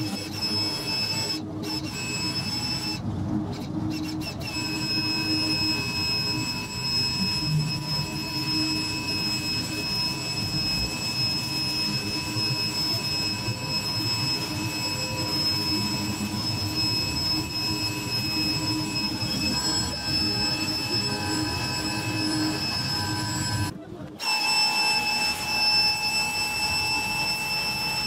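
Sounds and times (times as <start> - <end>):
pressure washer whine: 0.0 - 28.0.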